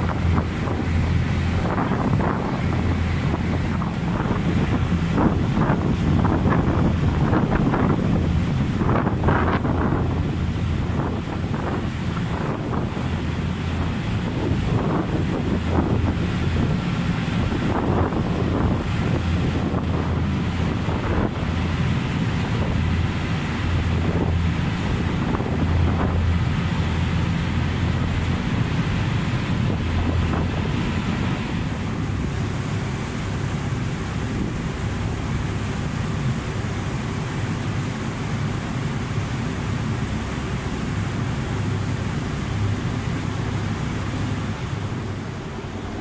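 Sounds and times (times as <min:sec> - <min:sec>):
boat engine drone: 0:00.0 - 0:46.0
sea washing past: 0:00.0 - 0:46.0
wind buffeting microphone: 0:00.0 - 0:46.0.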